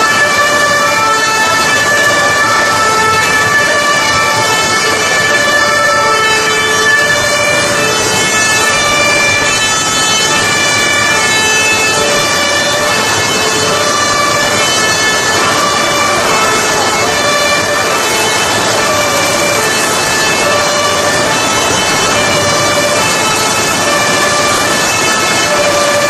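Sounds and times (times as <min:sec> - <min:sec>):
heavy rain hissing: 0:00.0 - 0:26.0
two-tone emergency sirens: 0:00.0 - 0:26.0.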